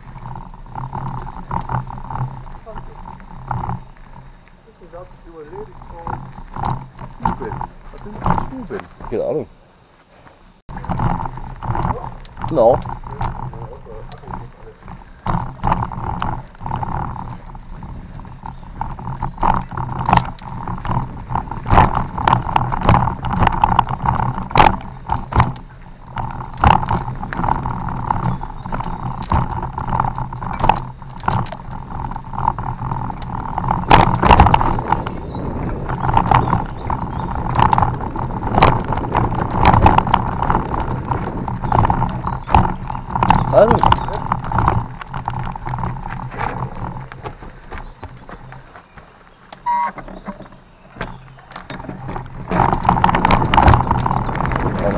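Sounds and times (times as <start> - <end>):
bicycle clattering and rattling: 0.0 - 54.9
rush of riding noise: 0.0 - 54.9.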